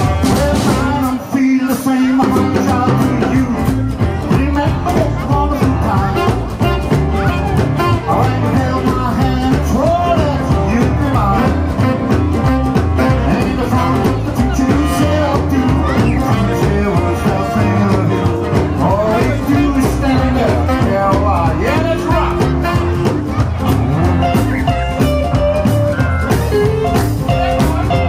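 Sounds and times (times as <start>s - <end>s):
man singing: 0.0s - 28.0s
rock and roll band playing: 0.0s - 28.0s.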